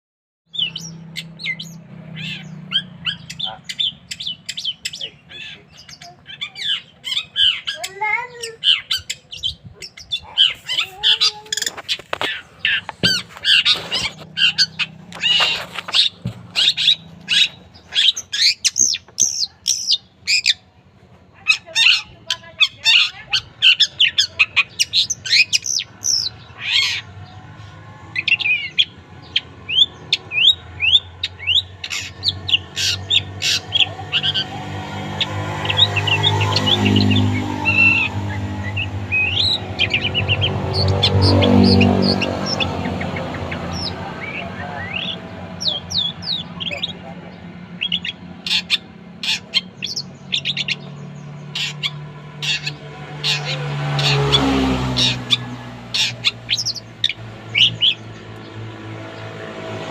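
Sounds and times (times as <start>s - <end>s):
bird singing harsh squawks: 0.5s - 20.7s, 21.3s - 59.9s.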